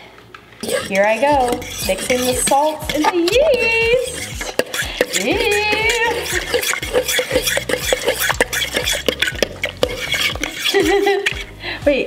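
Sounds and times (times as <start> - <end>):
fork scraping and clinking on bowl: 0.6 - 11.6.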